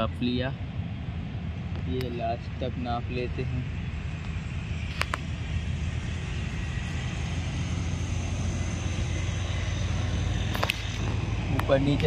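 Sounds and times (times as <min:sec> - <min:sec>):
engine droning hum: 0:00.0 - 0:12.0.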